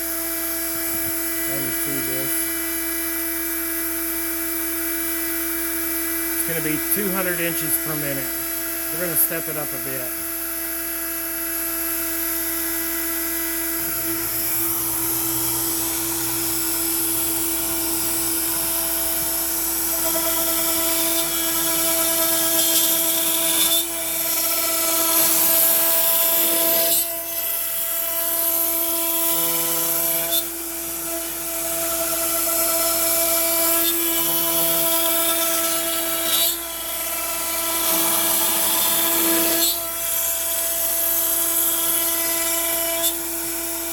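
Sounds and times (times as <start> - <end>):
router cutting wood: 0.0 - 43.9.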